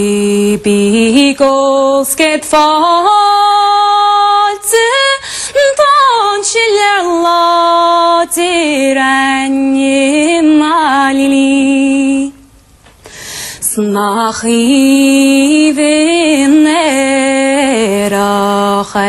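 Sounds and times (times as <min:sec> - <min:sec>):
woman singing unaccompanied: 0:00.0 - 0:12.5, 0:13.6 - 0:19.0.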